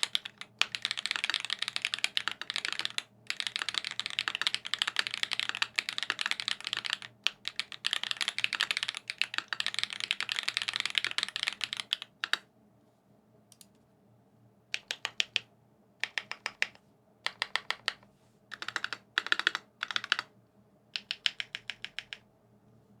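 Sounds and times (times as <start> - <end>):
typing on mechanical keyboard: 0.0 - 12.4, 14.7 - 20.3, 20.9 - 22.2.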